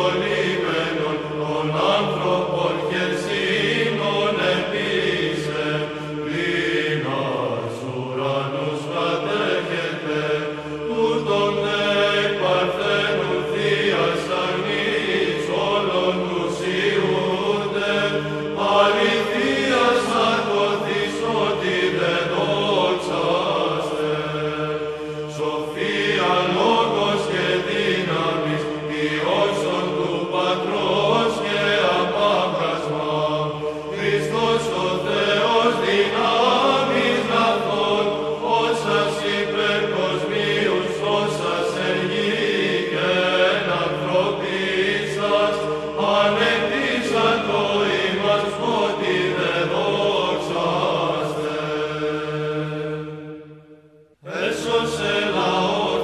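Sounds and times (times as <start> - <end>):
choir chanting a hymn: 0.0 - 56.0.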